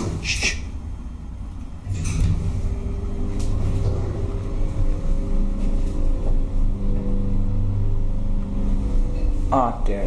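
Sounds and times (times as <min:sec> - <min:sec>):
machinery electric hum: 0:00.0 - 0:10.0.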